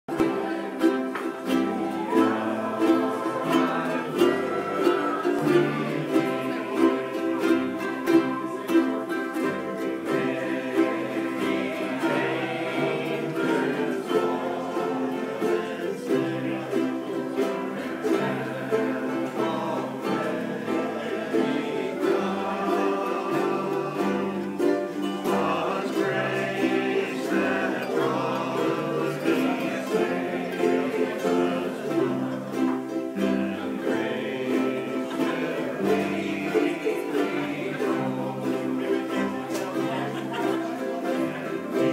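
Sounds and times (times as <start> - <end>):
group of voices singing: 0.0 - 41.9
ukuleles strumming chords: 0.0 - 41.9.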